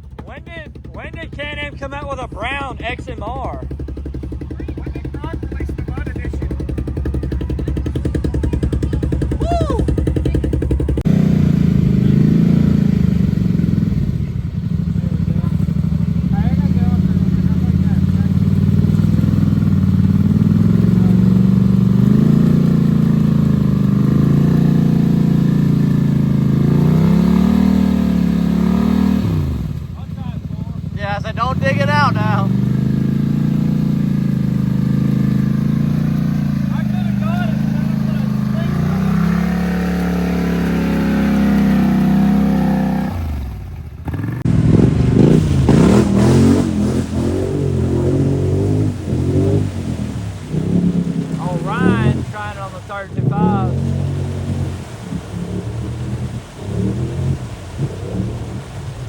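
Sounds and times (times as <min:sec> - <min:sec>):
atv engine at high revs: 0:00.0 - 0:59.0.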